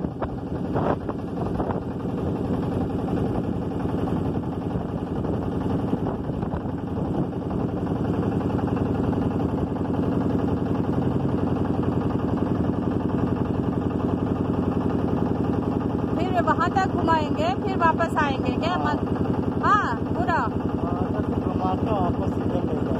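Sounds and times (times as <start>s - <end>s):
motorboat engine throbbing: 0.0s - 22.9s.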